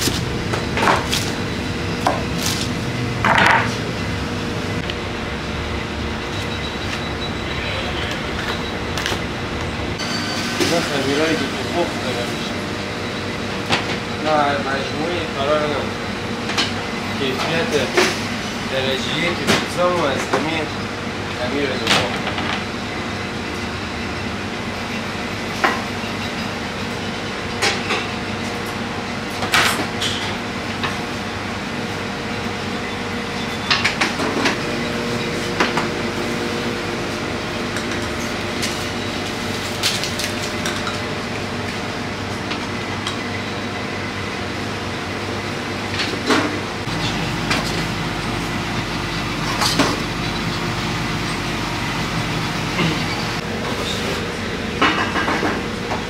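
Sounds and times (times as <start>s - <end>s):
kitchen machinery hum: 0.0s - 56.0s.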